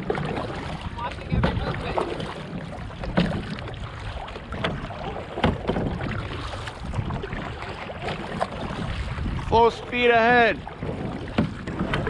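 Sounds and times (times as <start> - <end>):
paddle splashing in water: 0.0 - 12.0
wind rumbling on microphone: 0.0 - 12.0.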